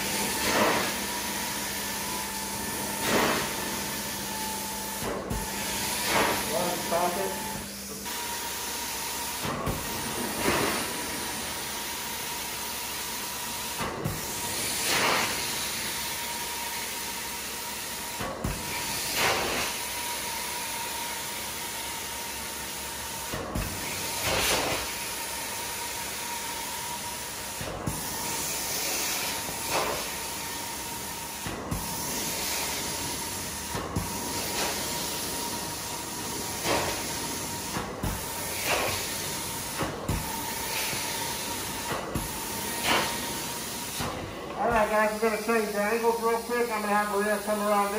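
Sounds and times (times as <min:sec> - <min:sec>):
extraction wand spraying and vacuuming: 0:00.0 - 0:47.9.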